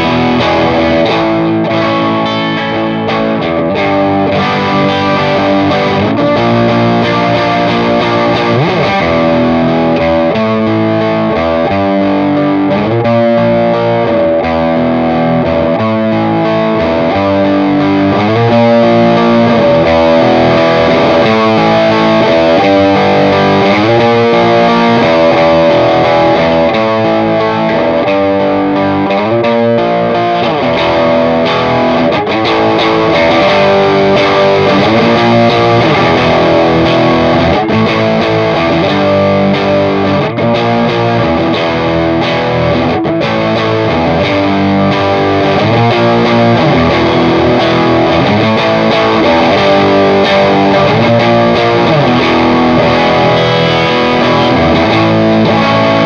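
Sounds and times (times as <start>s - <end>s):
overdriven electric guitar riff: 0.0s - 56.0s.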